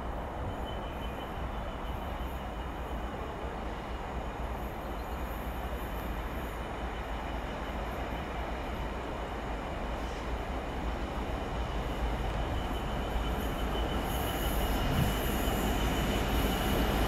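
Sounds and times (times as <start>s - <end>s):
faint high wheel squeal: 0.0s - 17.0s
freight train wheels rumbling: 0.0s - 17.0s.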